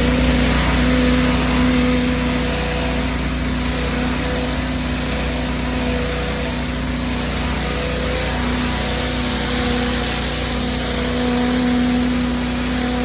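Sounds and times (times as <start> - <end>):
high-pressure water spray hiss: 0.0 - 13.0
pressure washer motor drone: 0.0 - 13.0.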